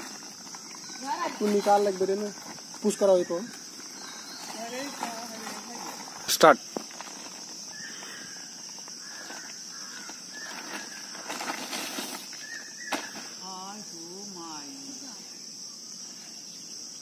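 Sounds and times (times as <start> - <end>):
insects chirring: 0.0 - 17.0
short insect chirps: 0.0 - 17.0.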